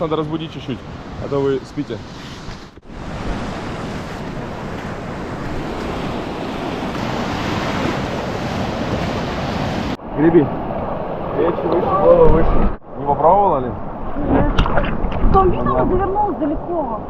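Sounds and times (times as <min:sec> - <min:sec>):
sea waves washing: 0:00.0 - 0:14.4.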